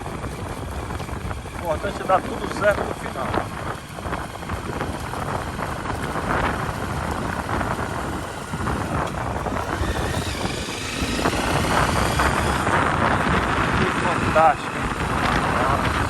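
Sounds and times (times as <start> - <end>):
motorcycle engine: 0.0 - 16.0
wind on microphone: 0.0 - 16.0.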